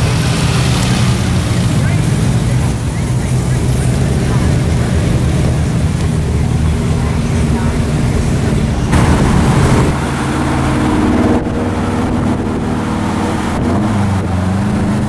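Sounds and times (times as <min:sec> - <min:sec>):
car engine and exhaust drone: 0:00.0 - 0:15.0.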